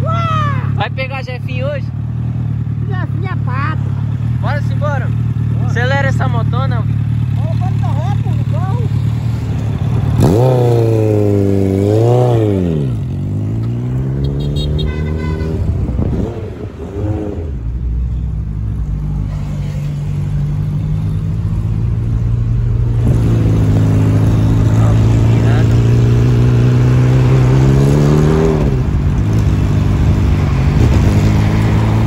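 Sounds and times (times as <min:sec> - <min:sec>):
car engine and road drone: 0:00.0 - 0:32.0
motorcycle engine revving: 0:00.4 - 0:32.0.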